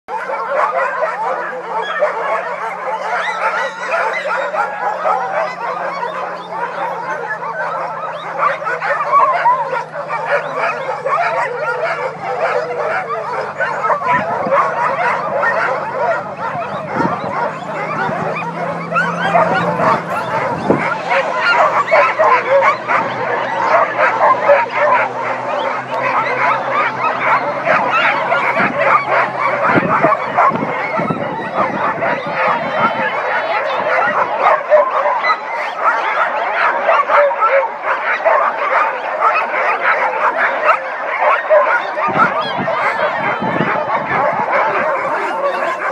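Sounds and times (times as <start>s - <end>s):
sled dogs barking and howling: 0.0s - 45.9s.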